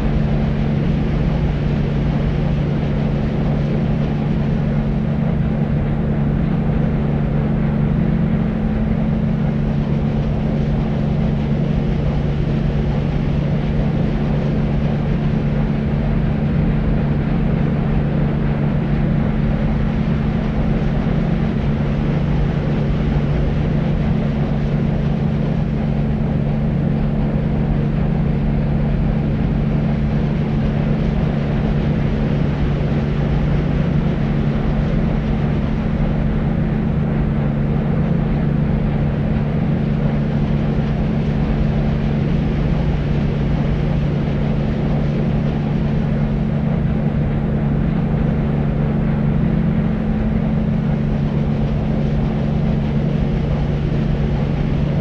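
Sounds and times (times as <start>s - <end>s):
constant low hum: 0.0s - 55.0s.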